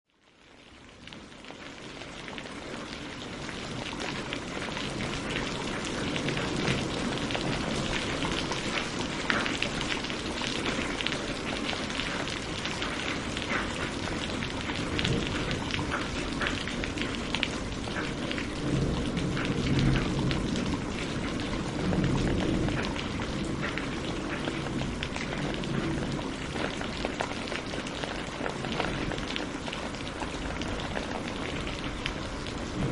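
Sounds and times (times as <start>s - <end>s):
rain drops pattering: 0.1s - 32.9s.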